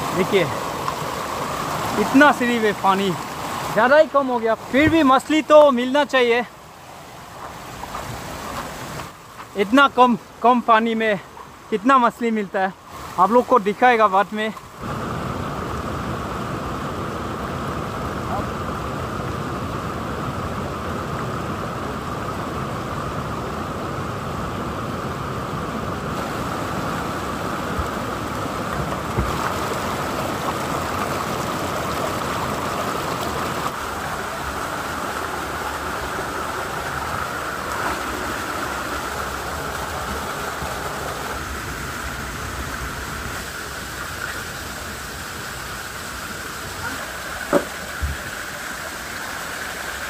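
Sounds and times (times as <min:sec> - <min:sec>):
flowing stream water: 0:00.0 - 0:50.0.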